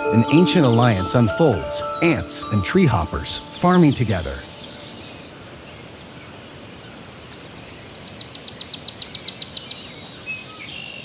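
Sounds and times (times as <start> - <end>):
faint high-pitched outdoor background: 0.0 - 11.0.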